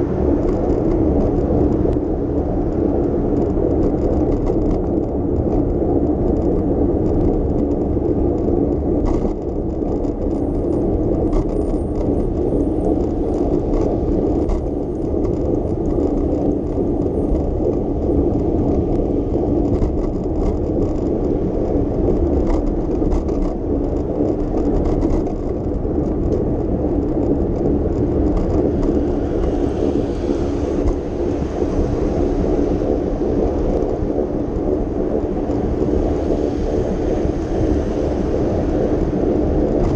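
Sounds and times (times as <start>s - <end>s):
bicycle tyres on road: 0.0s - 39.9s.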